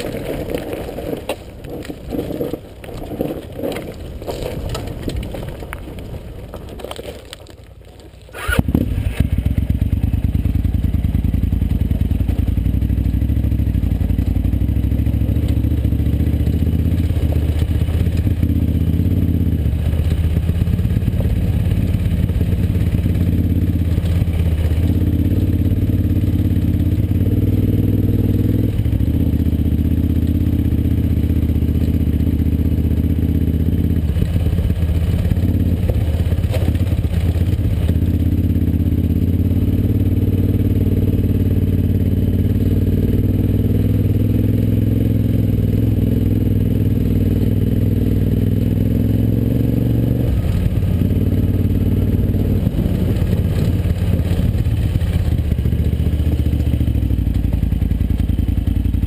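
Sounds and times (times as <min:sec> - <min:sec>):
motorcycle engine running: 0:00.0 - 0:59.0
motorcycle rattling over rocks: 0:00.0 - 0:59.0.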